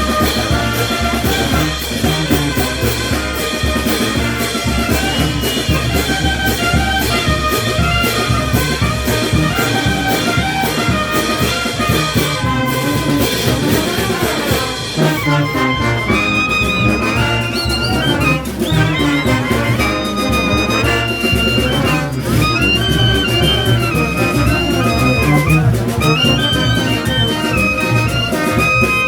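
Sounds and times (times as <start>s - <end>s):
steady drum beat: 0.0s - 29.0s
trumpets and trombones: 0.0s - 29.0s.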